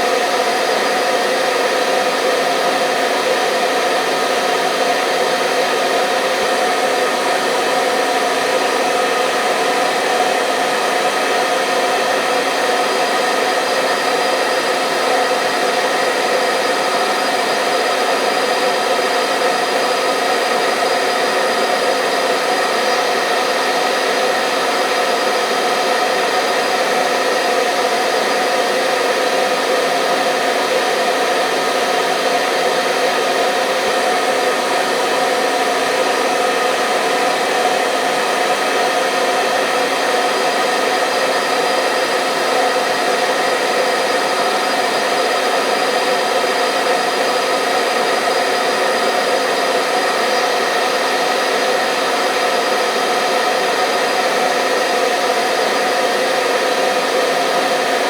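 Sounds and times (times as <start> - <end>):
hair dryer whooshing hum: 0.0 - 58.0.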